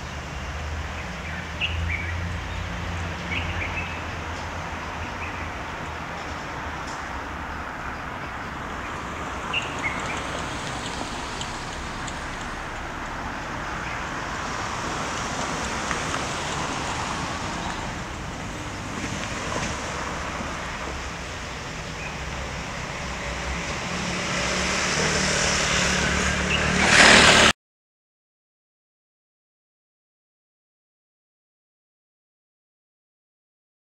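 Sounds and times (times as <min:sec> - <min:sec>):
road traffic: 0:00.0 - 0:27.6.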